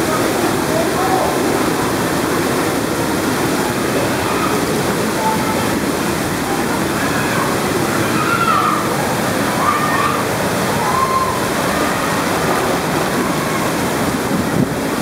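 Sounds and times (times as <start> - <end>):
rushing churning water: 0.0 - 15.0.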